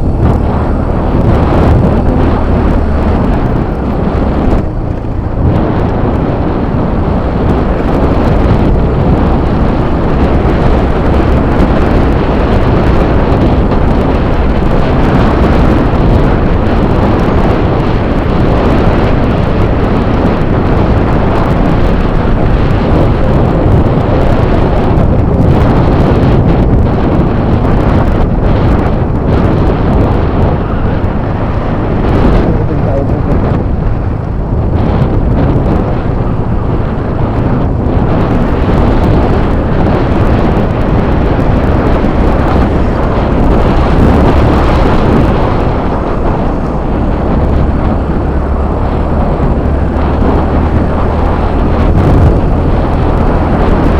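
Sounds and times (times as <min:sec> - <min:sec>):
scooter engine drone: 0:00.0 - 0:53.9
wind buffeting microphone: 0:00.0 - 0:53.9.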